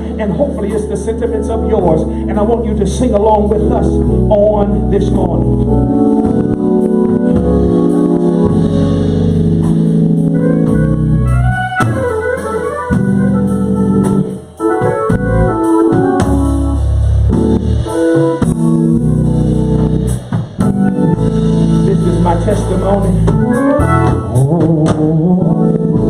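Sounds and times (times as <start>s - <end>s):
organ playing held chords: 0.0s - 26.0s.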